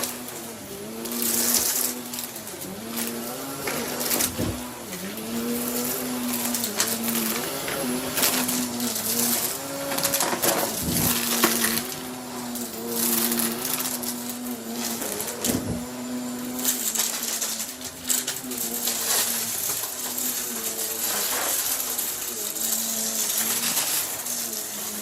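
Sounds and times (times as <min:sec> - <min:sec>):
debris rattling through vacuum: 0:00.0 - 0:25.0
vacuum cleaner motor hum: 0:00.0 - 0:25.0.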